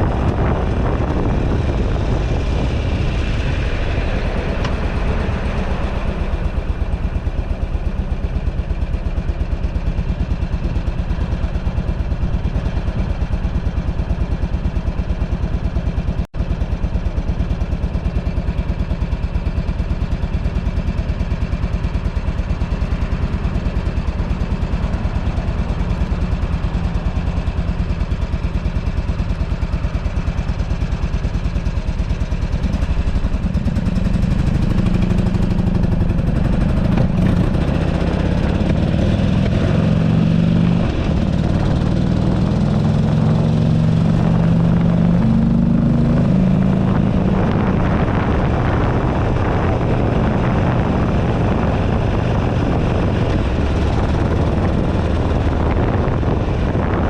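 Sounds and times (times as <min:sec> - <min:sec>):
wind buffeting microphone: 0:00.0 - 0:09.6, 0:20.8 - 0:57.0
motorcycle engine running: 0:00.0 - 0:57.0.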